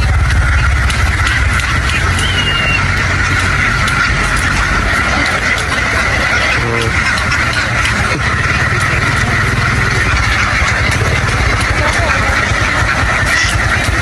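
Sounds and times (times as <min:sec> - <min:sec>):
flock of ducks quacking: 0:00.0 - 0:14.0
steady low rumble: 0:00.0 - 0:14.0.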